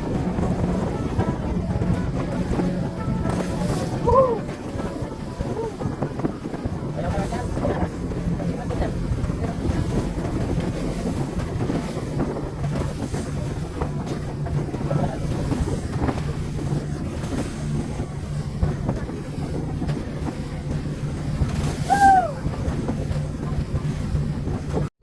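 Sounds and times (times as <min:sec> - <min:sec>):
wind buffeting microphone: 0:00.0 - 0:24.9
boat engine running: 0:00.0 - 0:25.0.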